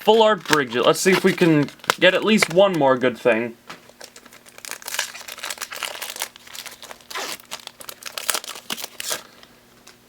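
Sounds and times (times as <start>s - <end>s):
foil wrapper crinkling and tearing: 0.0s - 2.8s, 3.8s - 10.0s.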